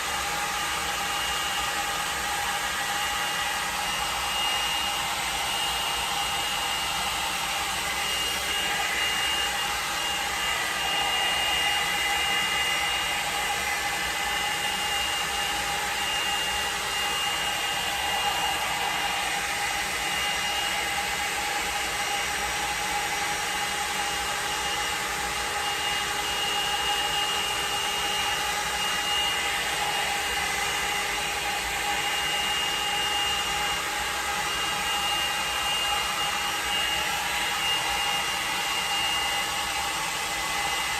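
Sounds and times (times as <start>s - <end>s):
blow dryer brush running: 0.0s - 40.9s.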